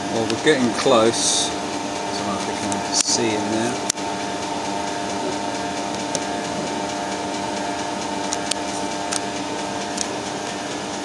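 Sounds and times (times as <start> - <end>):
lathe humming: 0.0 - 11.0.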